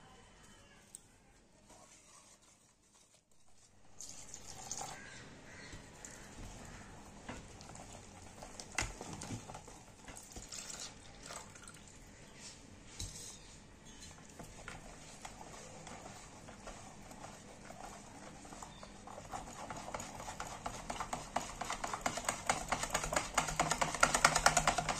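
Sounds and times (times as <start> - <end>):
whisk scraping in plastic bowl: 1.6 - 11.0, 14.2 - 24.9.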